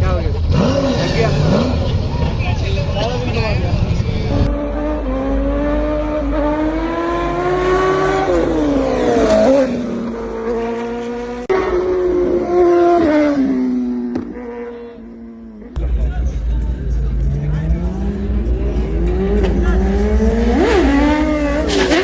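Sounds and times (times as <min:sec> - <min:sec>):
high-revving vehicle engine: 0:00.0 - 0:22.0.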